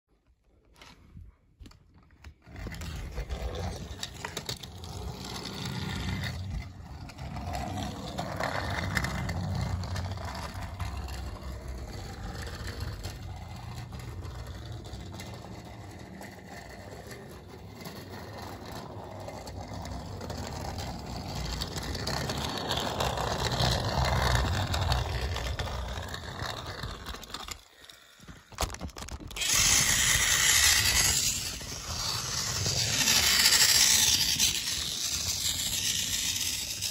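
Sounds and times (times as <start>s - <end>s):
toy train motor whirring: 2.7s - 7.2s, 7.9s - 36.9s
wheels rattling over track joints: 2.7s - 27.9s, 28.6s - 36.9s.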